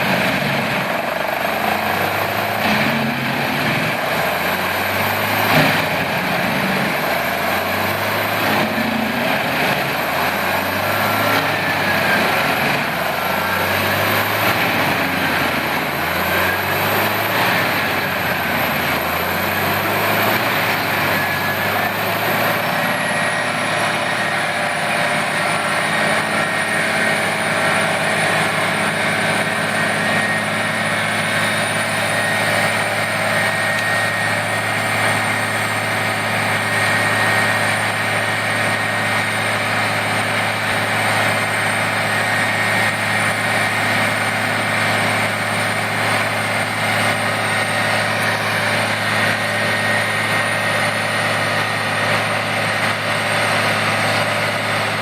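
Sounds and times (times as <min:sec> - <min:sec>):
high machine whine: 0:00.0 - 0:55.0
machine engine running under load: 0:00.0 - 0:55.0.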